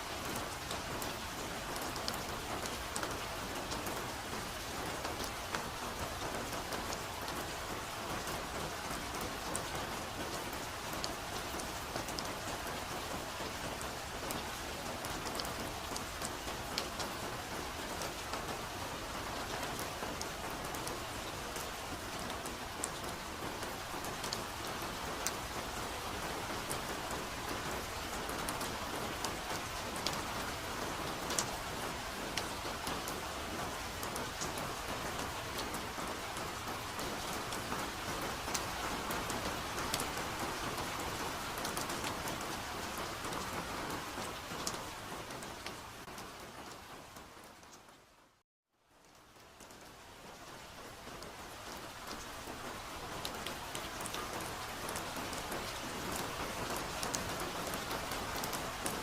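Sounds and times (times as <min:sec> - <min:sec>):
soft rain patter: 0:00.0 - 0:59.0.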